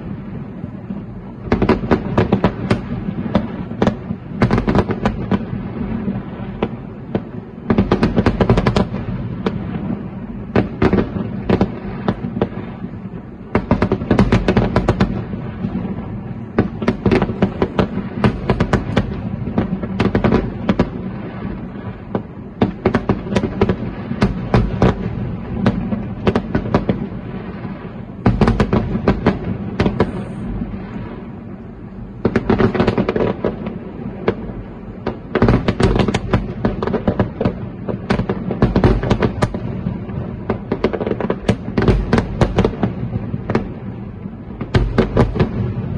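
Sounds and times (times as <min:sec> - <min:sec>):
fireworks bursts and bangs: 0:00.0 - 0:45.9.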